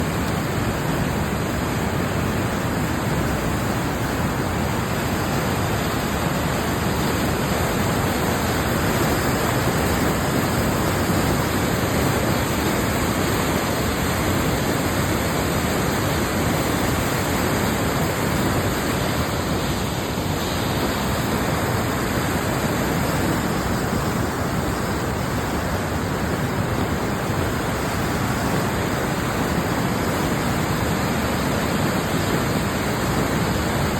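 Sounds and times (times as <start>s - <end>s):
rushing whitewater river: 0.0s - 33.9s.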